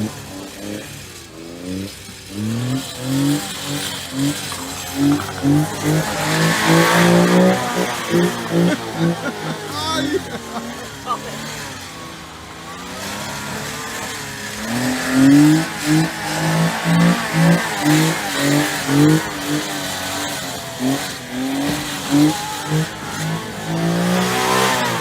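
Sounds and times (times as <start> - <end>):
small engine revving in bursts: 0.0 - 25.0.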